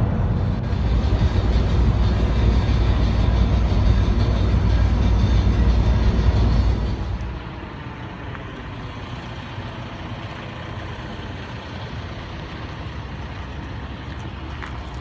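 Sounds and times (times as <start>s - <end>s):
truck engine rumble and hum: 0.0s - 15.0s.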